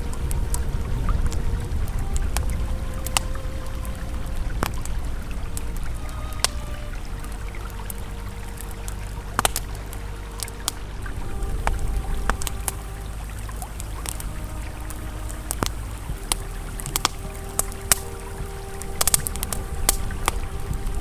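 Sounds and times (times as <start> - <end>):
campfire crackling and popping: 0.0 - 21.0
river flowing: 0.0 - 21.0.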